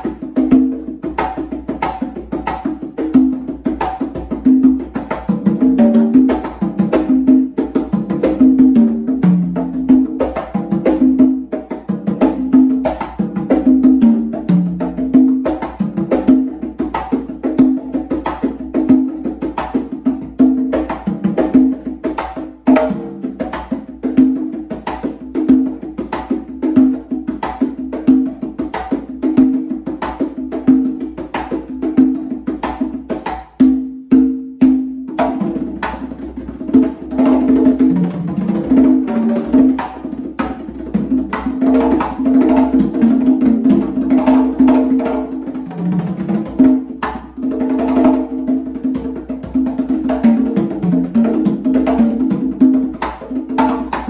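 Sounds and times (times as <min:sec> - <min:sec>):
congas played by hand: 0:00.0 - 0:54.0.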